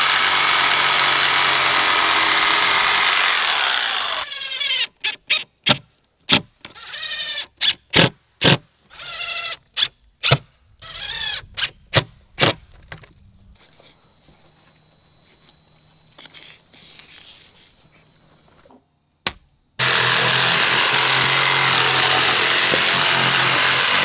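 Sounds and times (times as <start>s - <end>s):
faint outdoor background: 0.0s - 24.0s.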